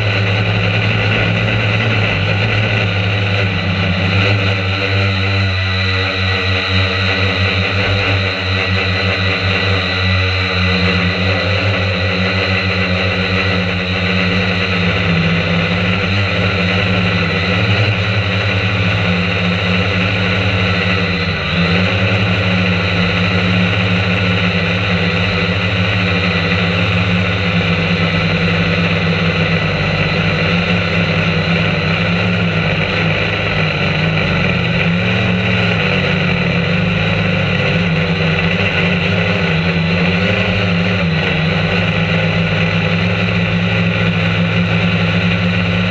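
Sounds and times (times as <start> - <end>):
drone propellers buzzing: 0.0 - 45.9.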